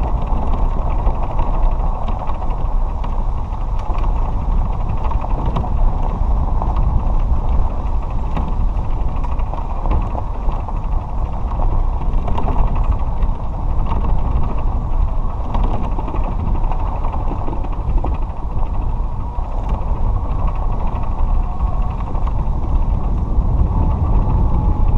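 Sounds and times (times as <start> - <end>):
cart rumbling on dirt road: 0.0 - 24.9
small rattles and clicks: 0.0 - 24.9.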